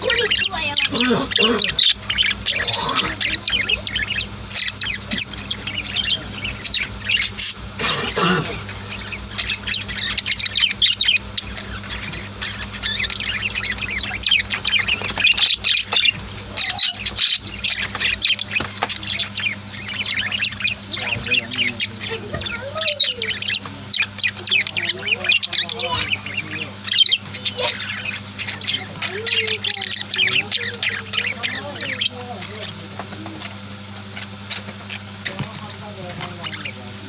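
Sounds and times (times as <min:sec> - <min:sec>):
budgies chirping: 0:00.0 - 0:37.0
low steady hum: 0:00.0 - 0:37.0.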